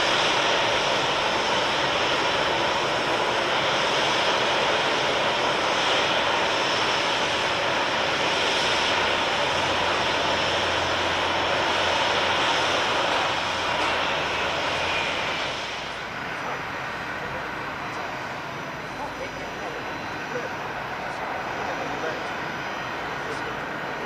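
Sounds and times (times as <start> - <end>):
airliner engines running: 0.0 - 24.0.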